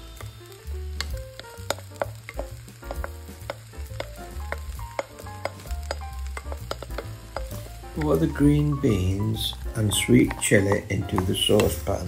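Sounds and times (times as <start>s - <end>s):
rice sizzling in a hot wok: 0.0s - 12.0s
soft background music: 0.0s - 12.0s
wooden spatula scraping a pan: 1.4s - 12.0s.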